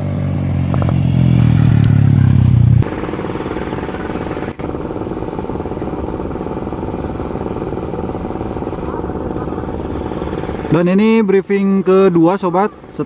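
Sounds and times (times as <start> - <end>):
deep engine drone: 0.0 - 13.0
machinery engine idling: 0.3 - 13.0.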